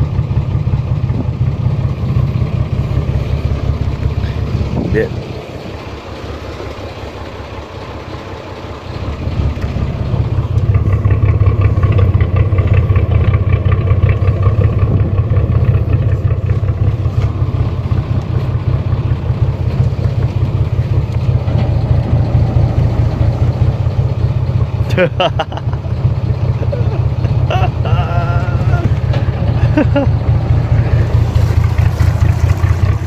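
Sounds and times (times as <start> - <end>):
boat diesel engine droning: 0.0 - 33.0.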